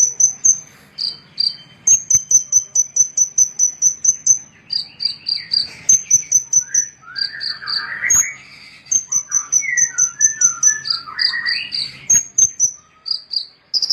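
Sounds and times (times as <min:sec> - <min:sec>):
songbirds chipping: 0:00.0 - 0:13.9
twittering warble: 0:00.0 - 0:13.9.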